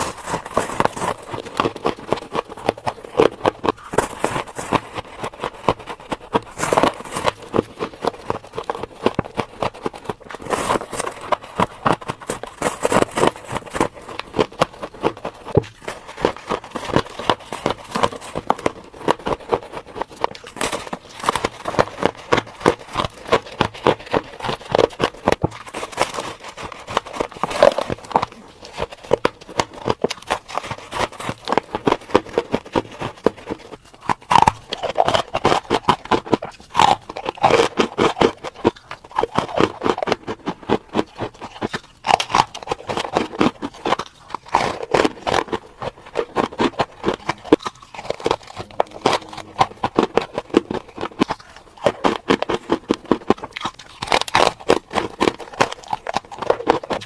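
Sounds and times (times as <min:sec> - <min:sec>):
crunching frost: 0:00.0 - 0:57.0.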